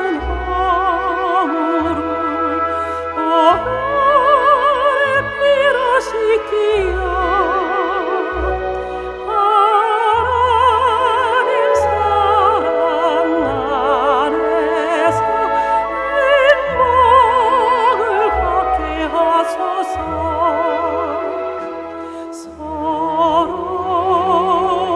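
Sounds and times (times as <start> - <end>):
instrumental accompaniment with bass: 0.0 - 24.9
soprano singing gospel song: 0.0 - 24.9.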